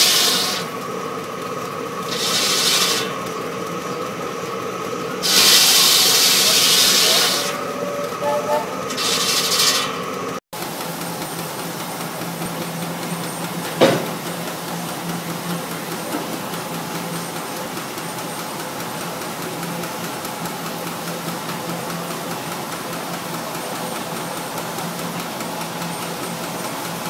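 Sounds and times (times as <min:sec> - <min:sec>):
sawmill machinery running: 0:00.0 - 0:27.0.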